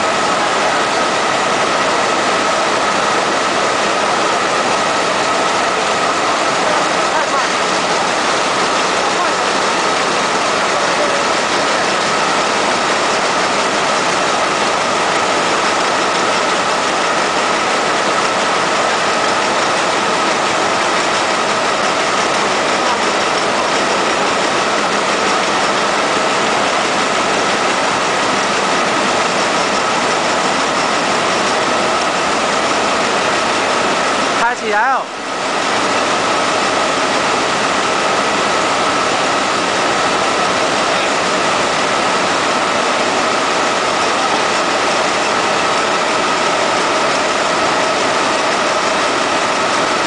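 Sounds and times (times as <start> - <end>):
needle loom running: 0.0 - 50.0.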